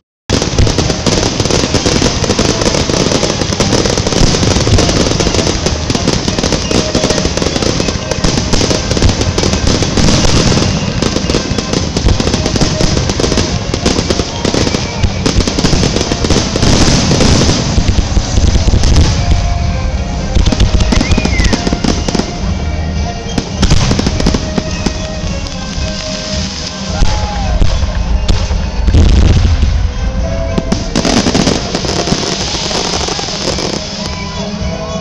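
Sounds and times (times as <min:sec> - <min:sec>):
fireworks crackling and banging: 0:00.3 - 0:35.0.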